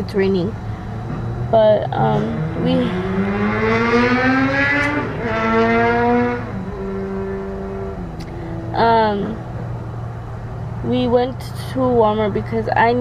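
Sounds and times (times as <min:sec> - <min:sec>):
vehicle engine accelerating: 0:00.0 - 0:12.6.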